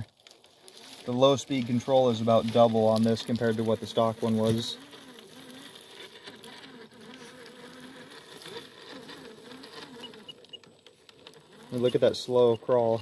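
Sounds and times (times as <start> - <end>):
rc truck motor whining: 0.0 - 13.0.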